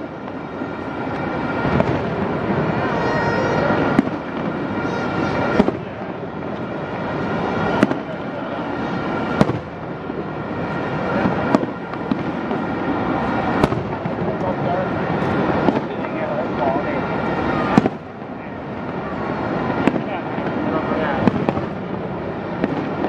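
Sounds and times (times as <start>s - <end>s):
dense din of fireworks bursts: 0.0s - 23.0s
fireworks sharp bangs: 0.0s - 23.0s.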